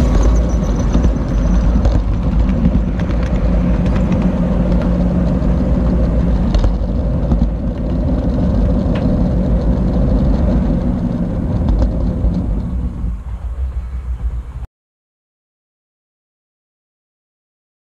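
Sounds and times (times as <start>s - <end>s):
model train rumbling on track: 0.0s - 14.6s
motor hum: 0.0s - 14.6s.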